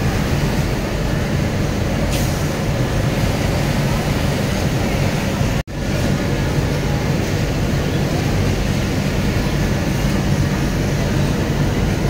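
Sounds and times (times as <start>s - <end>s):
workshop machinery hum and rumble: 0.0s - 12.0s.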